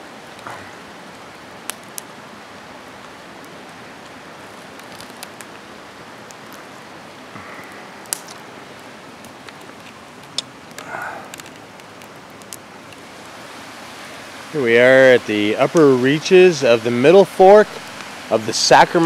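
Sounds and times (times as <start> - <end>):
campfire crackling: 0.0 - 19.0
mountain river rushing: 0.0 - 19.0.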